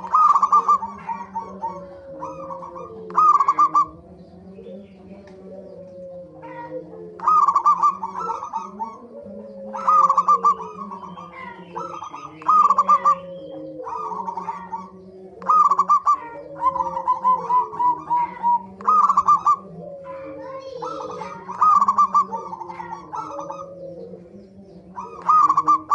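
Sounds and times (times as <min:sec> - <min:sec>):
doves cooing in staccato runs: 0:00.0 - 0:25.9
low steady bird cooing: 0:00.0 - 0:25.9.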